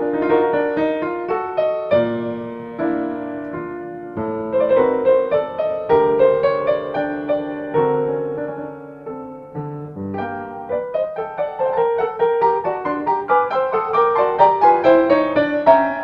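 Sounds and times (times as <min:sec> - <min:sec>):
solo classical piano: 0:00.0 - 0:16.0.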